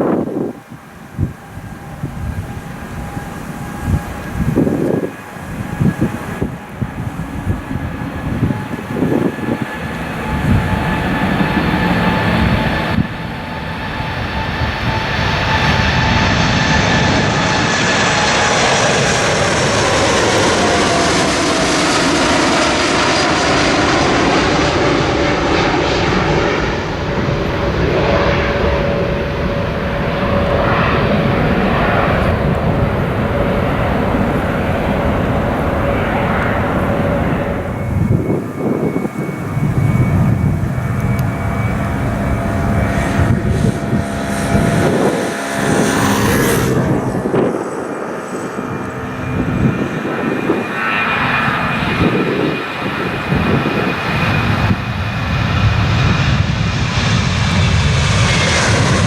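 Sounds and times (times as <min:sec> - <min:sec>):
jet airliner engines at takeoff: 0:00.0 - 0:59.0.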